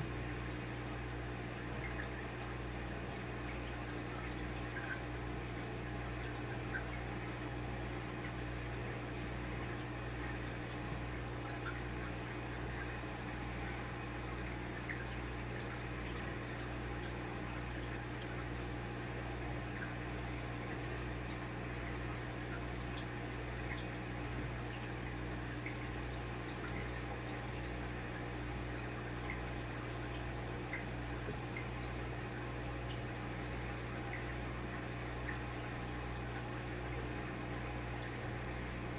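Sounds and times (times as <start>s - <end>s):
aquarium pump humming: 0.0s - 38.9s.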